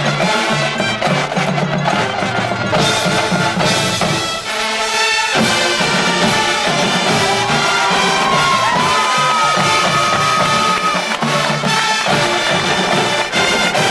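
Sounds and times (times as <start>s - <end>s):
marching band playing: 0.0s - 13.9s.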